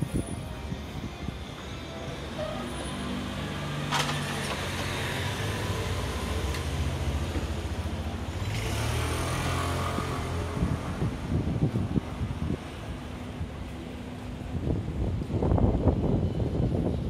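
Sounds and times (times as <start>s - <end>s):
vehicle engines humming: 0.0s - 17.0s.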